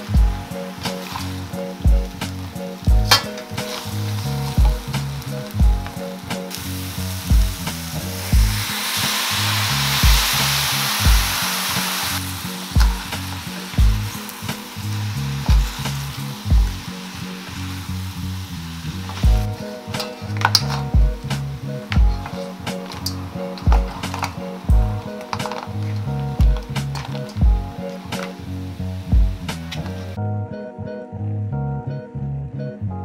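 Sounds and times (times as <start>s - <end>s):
noodles sizzling in a pan: 0.0s - 30.2s
wooden spoons tossing food: 0.0s - 30.2s
background music with a beat: 0.0s - 33.0s.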